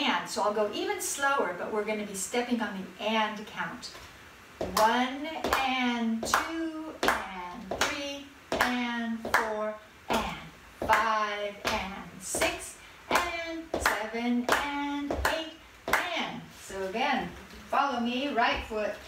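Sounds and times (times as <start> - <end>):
woman counting: 0.0 - 4.0, 4.6 - 19.0.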